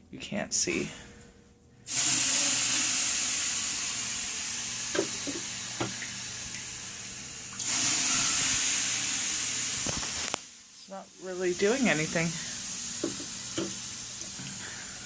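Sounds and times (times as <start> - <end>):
water hissing on hot stones: 1.9 - 15.0.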